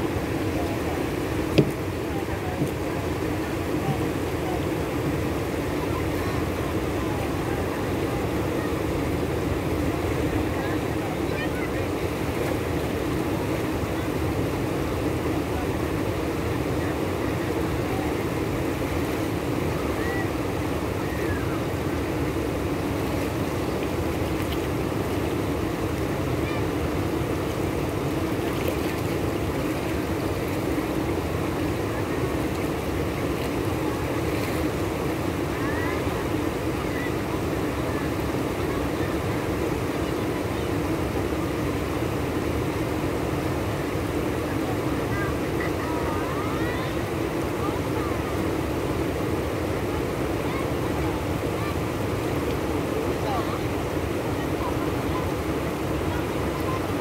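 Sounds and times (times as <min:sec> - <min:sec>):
flooding river rushing: 0:00.0 - 0:57.0.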